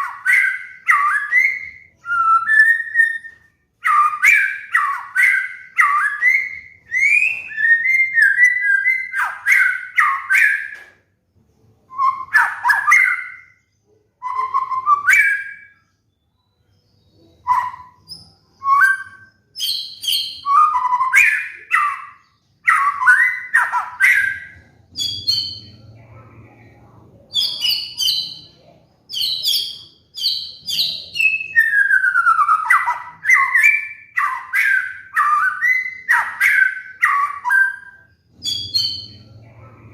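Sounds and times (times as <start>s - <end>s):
bird singing whistled phrases: 0.0s - 11.0s, 11.9s - 13.6s, 14.2s - 26.0s, 27.3s - 39.4s.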